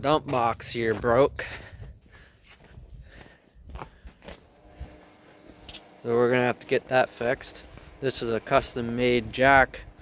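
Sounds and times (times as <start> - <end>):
faint footsteps: 0.2 - 10.0.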